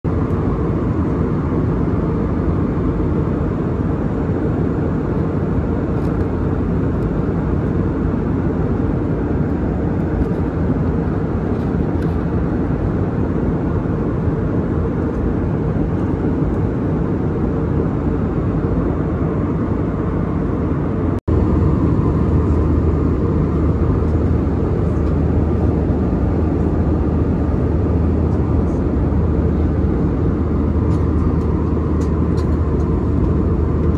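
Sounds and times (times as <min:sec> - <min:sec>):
airplane cabin noise: 0:00.1 - 0:33.9
low hum: 0:00.1 - 0:33.9.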